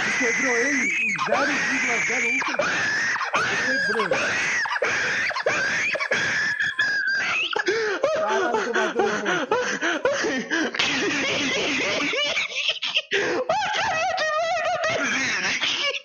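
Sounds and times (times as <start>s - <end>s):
person laughing: 0.1s - 16.0s.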